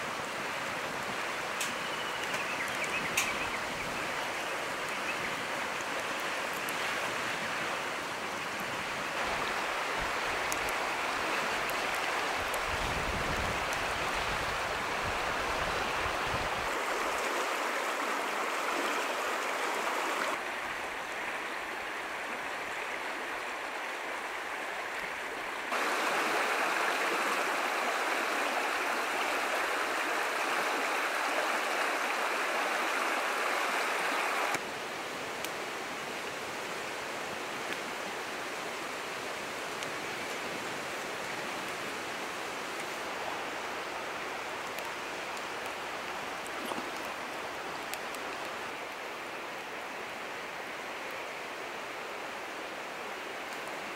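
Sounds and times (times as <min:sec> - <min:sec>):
river rushing over pebbles: 0:00.0 - 0:53.9.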